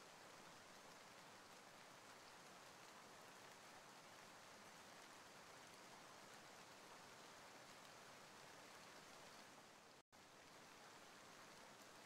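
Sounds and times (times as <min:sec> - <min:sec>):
faint steady rain: 0:00.0 - 0:12.0.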